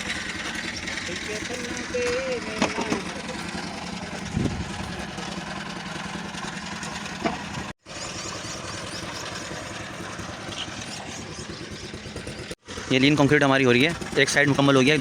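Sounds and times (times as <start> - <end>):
concrete mixer engine running: 0.0 - 15.0.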